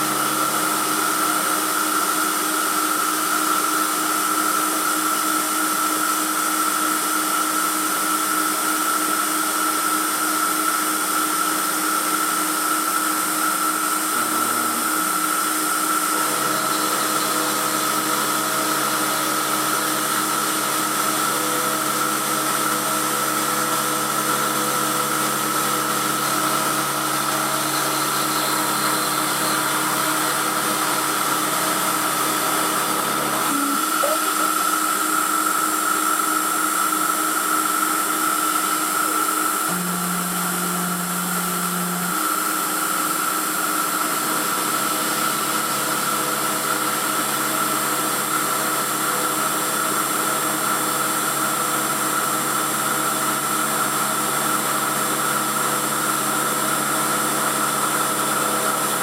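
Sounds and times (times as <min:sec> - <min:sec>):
milling machine high whine: 0:00.0 - 0:59.0.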